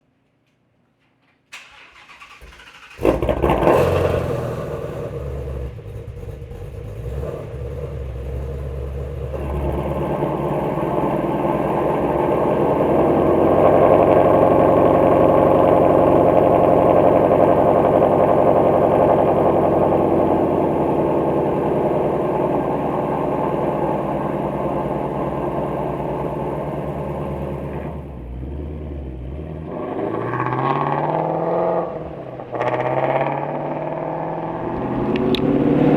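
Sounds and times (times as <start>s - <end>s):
car engine running: 3.0s - 29.3s, 32.1s - 35.9s.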